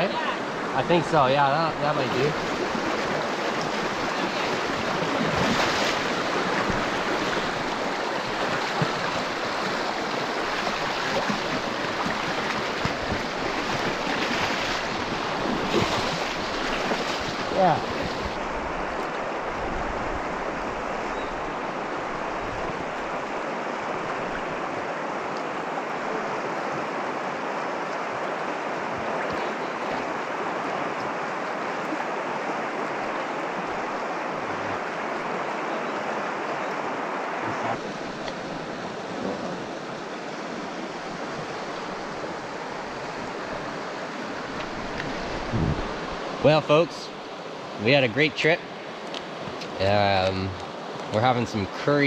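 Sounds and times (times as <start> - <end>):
river water over rapids: 0.0 - 52.0.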